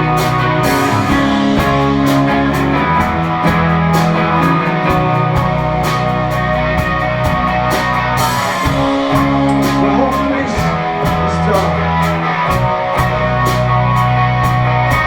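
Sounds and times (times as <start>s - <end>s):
indie rock band playing: 0.0s - 15.0s.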